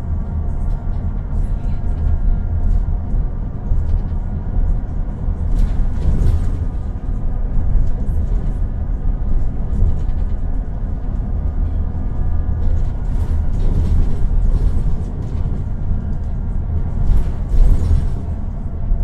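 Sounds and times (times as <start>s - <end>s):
bus diesel engine rumble: 0.0s - 19.0s.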